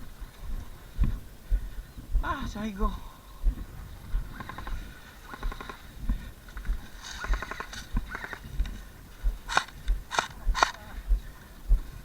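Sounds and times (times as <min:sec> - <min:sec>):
footsteps with dull thumps: 0:00.0 - 0:12.0.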